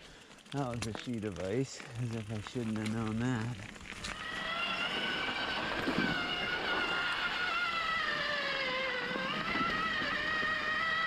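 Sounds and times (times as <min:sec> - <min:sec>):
tyres rushing on dirt: 0:00.0 - 0:11.0
electric bike motor whining: 0:02.1 - 0:11.0.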